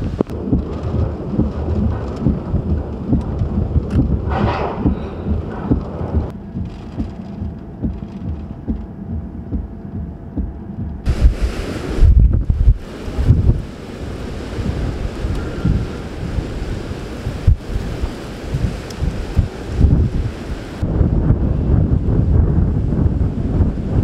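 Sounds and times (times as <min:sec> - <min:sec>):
rain hiss: 0:00.0 - 0:06.3, 0:11.1 - 0:24.0
wind buffeting microphone: 0:00.0 - 0:24.0.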